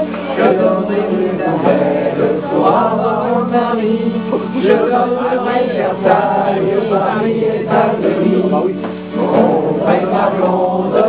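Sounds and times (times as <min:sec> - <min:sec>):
group of people singing: 0:00.0 - 0:11.0.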